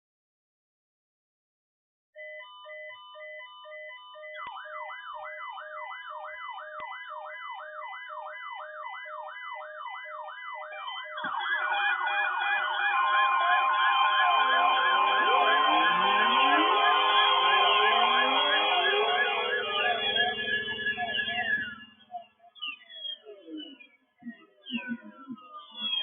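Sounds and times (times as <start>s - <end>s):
steady high alarm tone: 2.2s - 26.0s
rapid pulsing beeps: 3.2s - 26.0s
rising and falling siren sweep: 4.1s - 26.0s.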